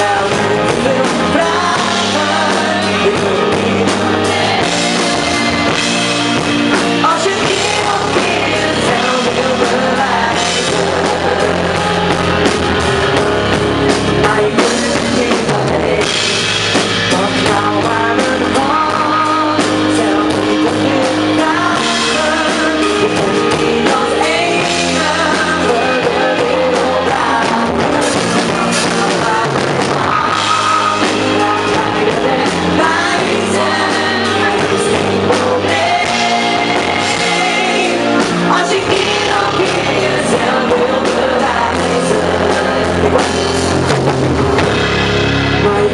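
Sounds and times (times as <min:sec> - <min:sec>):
drums: 0:00.0 - 0:45.9
live band playing: 0:00.0 - 0:45.9
person singing: 0:00.0 - 0:45.9.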